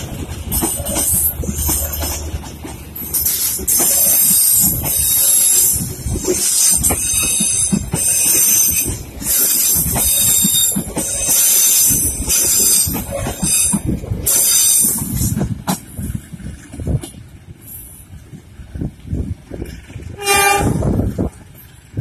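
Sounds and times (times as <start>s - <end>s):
train wheels clattering on track: 0.0s - 22.0s.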